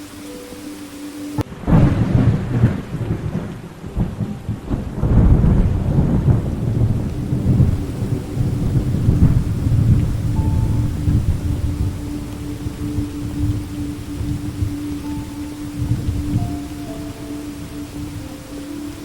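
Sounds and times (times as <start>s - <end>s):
rain: 0.0s - 19.0s
thunder rumbling: 0.0s - 19.0s.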